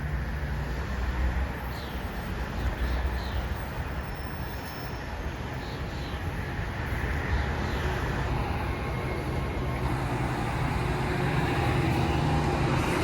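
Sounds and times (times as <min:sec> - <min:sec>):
train passing on tracks: 0:00.0 - 0:13.0.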